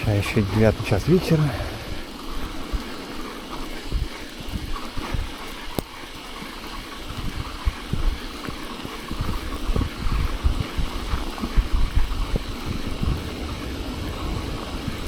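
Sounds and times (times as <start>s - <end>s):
tyres hissing on snow: 0.0s - 15.0s
wind buffeting microphone: 0.0s - 15.0s.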